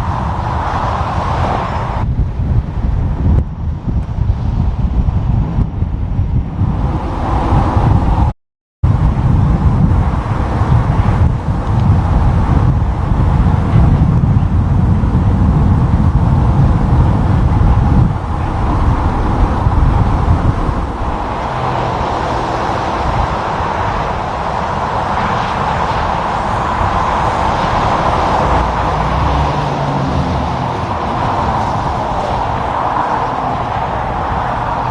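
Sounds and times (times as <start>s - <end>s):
heavy trucks rumbling: 0.0s - 34.9s
road and tyre noise: 0.0s - 34.9s.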